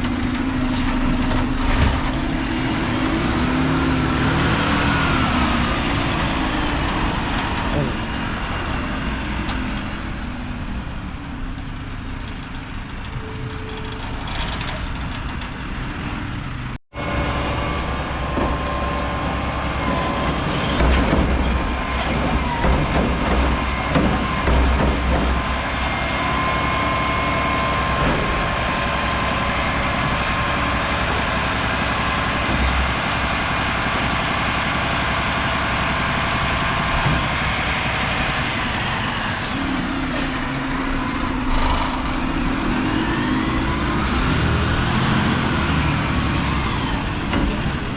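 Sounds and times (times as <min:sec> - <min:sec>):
garbage truck engine running: 0:00.0 - 0:10.4, 0:17.0 - 0:47.9.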